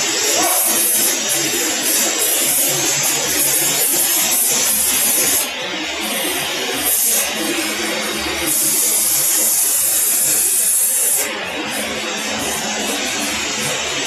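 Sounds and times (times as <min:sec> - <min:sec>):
paint spray gun hissing: 0:00.0 - 0:14.0.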